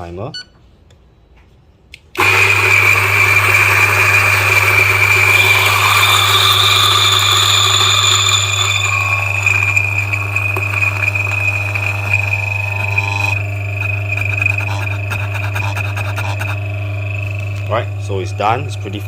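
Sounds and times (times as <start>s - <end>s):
electric coffee grinder grinding: 2.2s - 19.0s.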